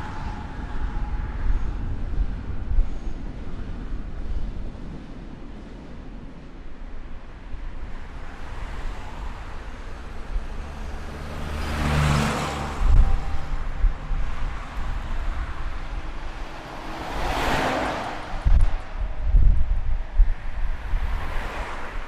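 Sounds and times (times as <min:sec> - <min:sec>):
road traffic rumble: 0:00.0 - 0:22.0
vehicles passing close by: 0:00.0 - 0:22.0.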